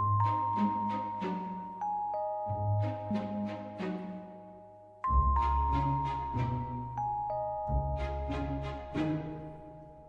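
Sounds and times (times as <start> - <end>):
light chiming background music: 0.0 - 10.0.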